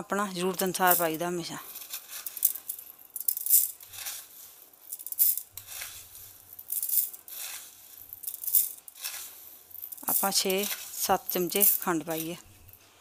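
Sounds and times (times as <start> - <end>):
spoon scraping on steel: 0.6 - 12.8
sugar pattering into jug: 0.6 - 12.8.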